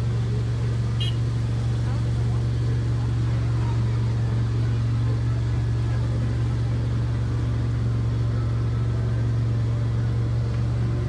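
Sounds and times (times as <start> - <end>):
tractor engine humming: 0.0 - 11.0.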